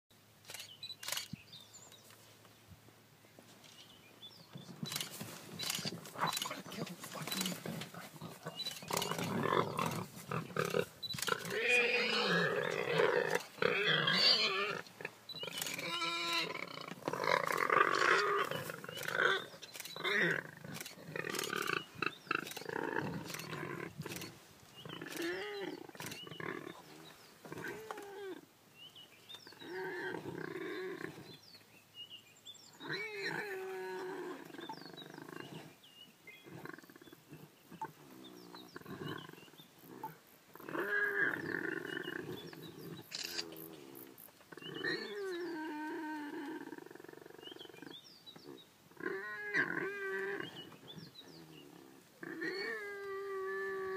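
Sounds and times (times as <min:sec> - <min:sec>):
leopard growling and snarling: 0:04.8 - 0:28.4, 0:32.8 - 0:35.8, 0:36.4 - 0:53.9.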